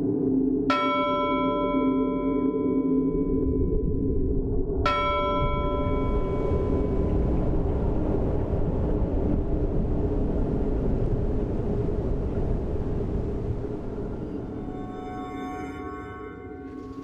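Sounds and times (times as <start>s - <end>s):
low noisy rumble: 3.2s - 17.0s.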